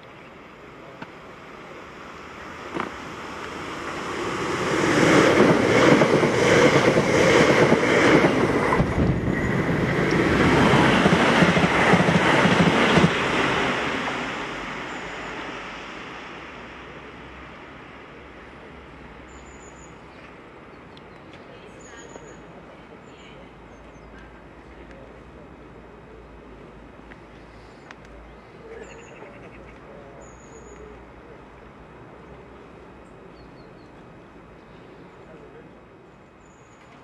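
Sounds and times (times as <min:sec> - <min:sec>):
passenger train passing: 0:00.0 - 0:37.0.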